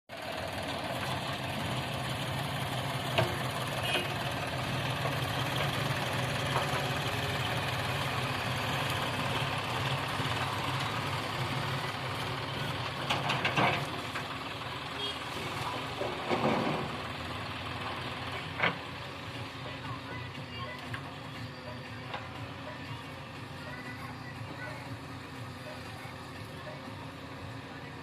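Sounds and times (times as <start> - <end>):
diesel engine idling: 0.1 - 28.0.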